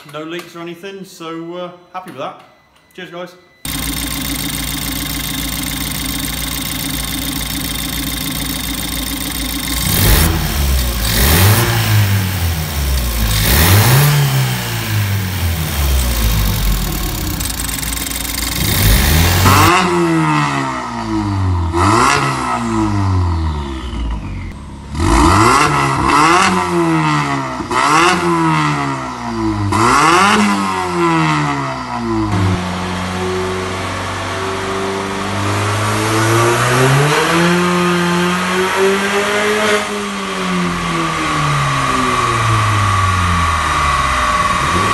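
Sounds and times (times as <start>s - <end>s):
car engine revving and idling: 3.7s - 44.9s.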